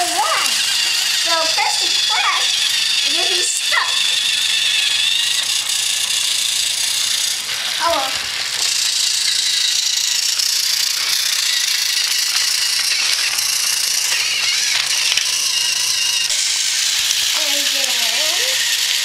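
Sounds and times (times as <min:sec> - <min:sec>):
toy train motors whirring: 0:00.0 - 0:19.0.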